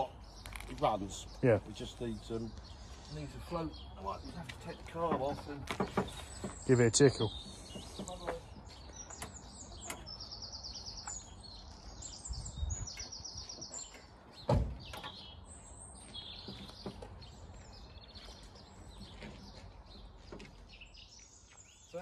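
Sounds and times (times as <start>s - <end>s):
small birds singing: 0.0s - 22.0s.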